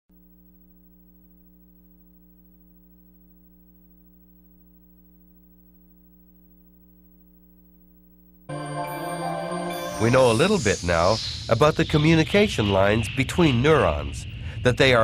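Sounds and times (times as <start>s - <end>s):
faint mains hum: 0.1s - 15.0s.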